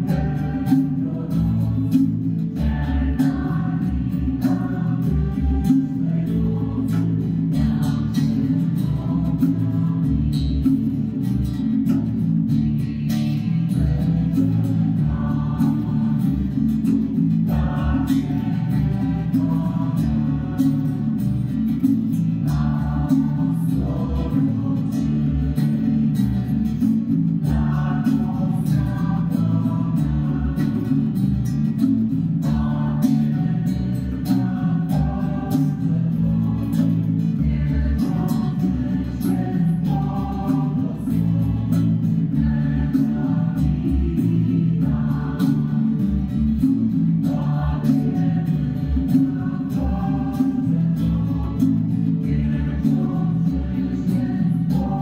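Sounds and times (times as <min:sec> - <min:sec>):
small choir singing a carol: 0:00.0 - 0:55.0
strummed acoustic guitar: 0:00.0 - 0:55.0.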